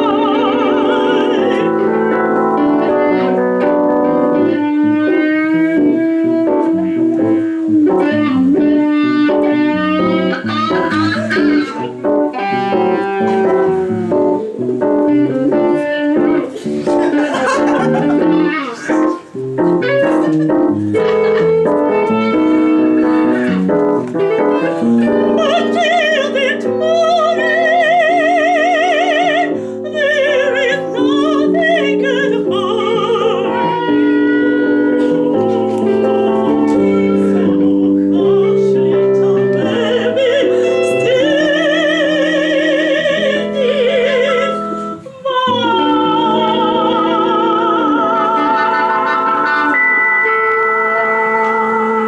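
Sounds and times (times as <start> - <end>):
soprano singing operatically: 0.0 - 16.5, 21.2 - 52.0
sustained keyboard chords: 0.0 - 52.0.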